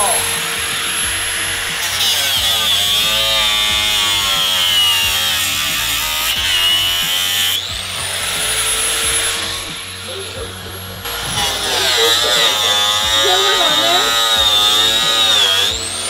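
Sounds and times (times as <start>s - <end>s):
angle grinder whining on metal: 0.0s - 16.0s.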